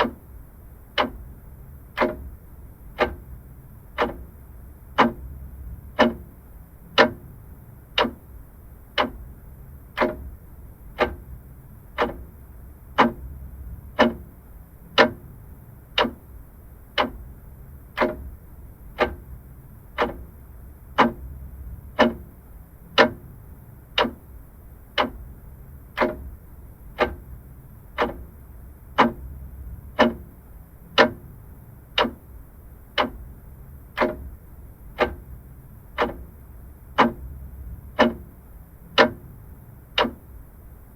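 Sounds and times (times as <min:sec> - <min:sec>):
mechanical clock ticking: 0:00.0 - 0:40.7.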